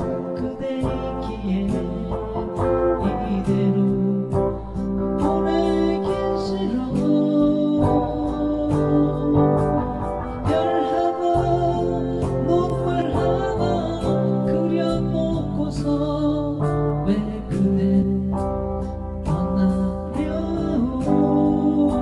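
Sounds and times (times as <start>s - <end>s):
guitar accompaniment: 0.0s - 22.0s
person singing: 0.0s - 22.0s.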